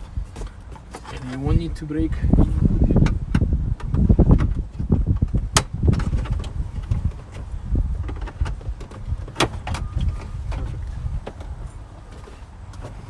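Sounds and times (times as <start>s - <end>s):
hands working on car interior trim: 0.0s - 13.0s.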